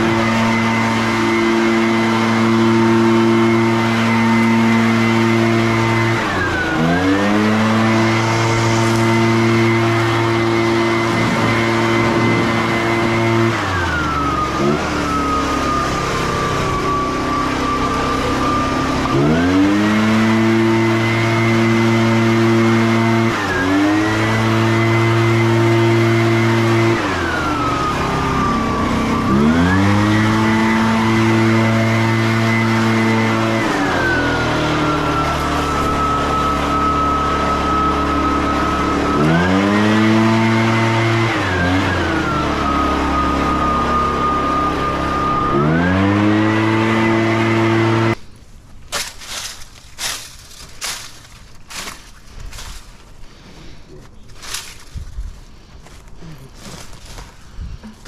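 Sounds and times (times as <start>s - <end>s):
leaf blower revving: 0.0s - 58.0s.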